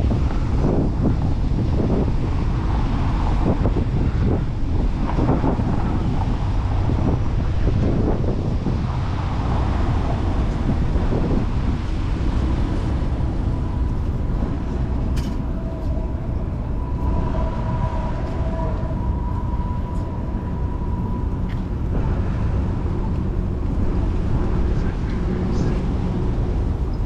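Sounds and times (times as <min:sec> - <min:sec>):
traffic noise: 0:00.0 - 0:27.0
wind rumbling on microphone: 0:00.0 - 0:27.0.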